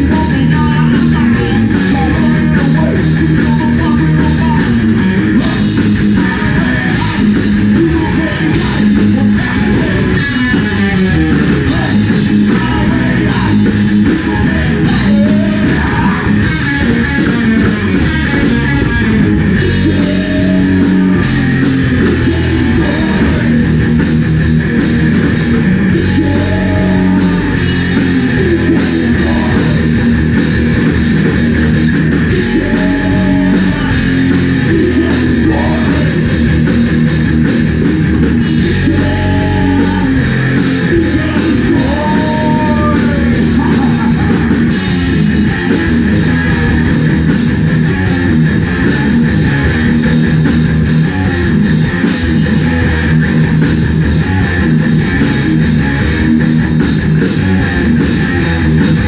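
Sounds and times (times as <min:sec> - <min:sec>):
bass guitar: 0:00.0 - 0:59.0
distorted electric guitars: 0:00.0 - 0:59.0
drum kit: 0:00.0 - 0:59.0.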